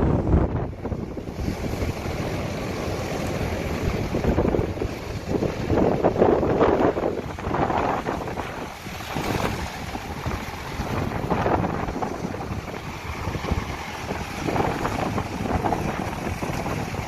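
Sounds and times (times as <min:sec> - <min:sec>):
sea washing: 0:00.0 - 0:17.0
wind buffeting microphone: 0:00.0 - 0:17.0.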